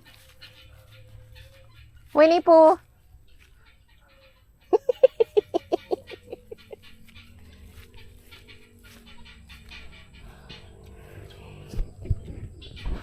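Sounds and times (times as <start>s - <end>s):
chicken clucking: 0.0s - 13.0s.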